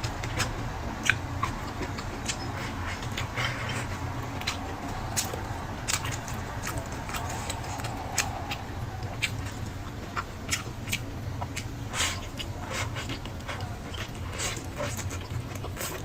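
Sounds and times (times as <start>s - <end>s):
low hum: 0.0s - 15.6s
chewing mouth clicks and smacks: 0.1s - 16.0s.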